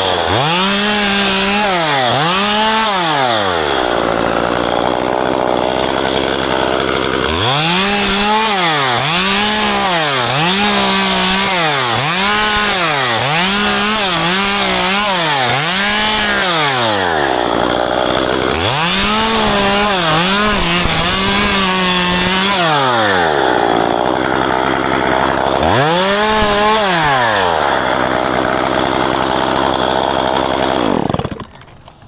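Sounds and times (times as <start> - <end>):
chainsaw revving and cutting branches: 0.0 - 32.0.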